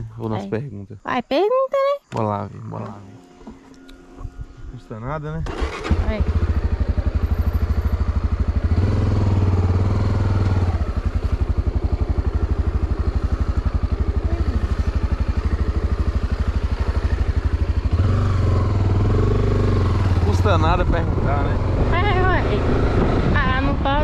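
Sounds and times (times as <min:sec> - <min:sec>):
motorcycle engine running: 0:02.2 - 0:24.0.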